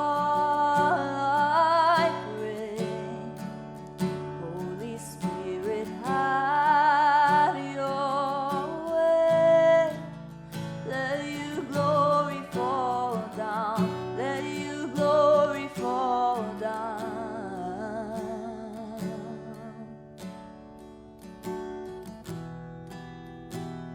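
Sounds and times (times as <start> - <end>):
person singing with vibrato: 0.0 - 20.0
strummed acoustic guitar: 0.0 - 23.9.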